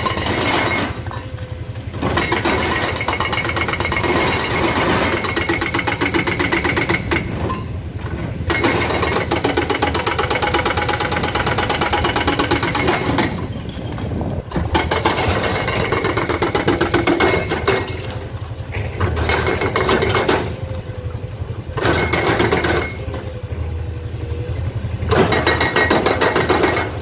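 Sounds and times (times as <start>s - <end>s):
excavator diesel engine clattering: 0.0s - 27.0s.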